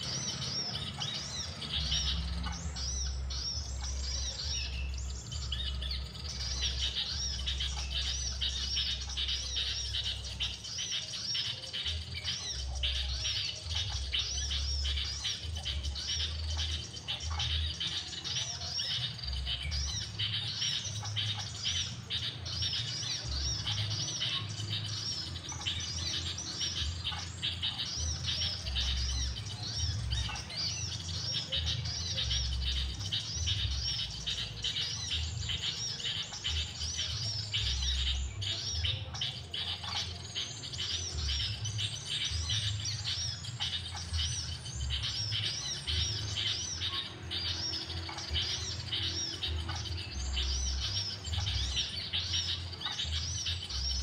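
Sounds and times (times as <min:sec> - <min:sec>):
recorded bird calls chirping: 0:00.0 - 0:54.0.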